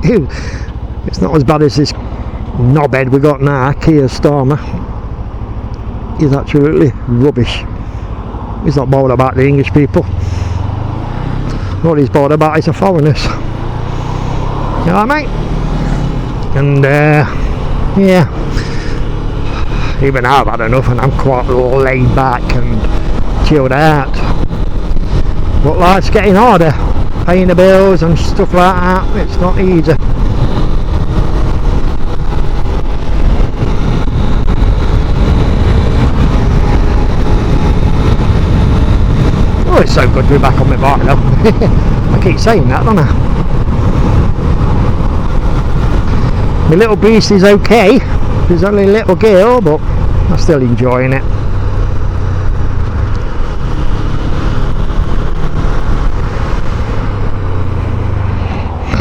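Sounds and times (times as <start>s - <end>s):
motorcycle engine running: 0.0s - 59.0s
wind rushing on microphone: 0.0s - 59.0s.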